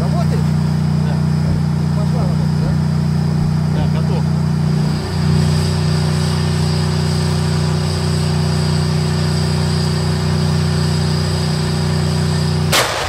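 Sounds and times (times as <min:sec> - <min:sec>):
tank engine idling: 0:00.0 - 0:13.0.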